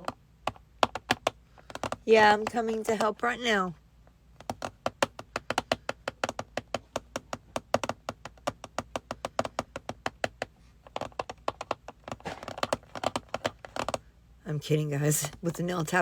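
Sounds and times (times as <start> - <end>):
fingernails tapping rapidly: 0.0 - 3.6, 4.4 - 14.1.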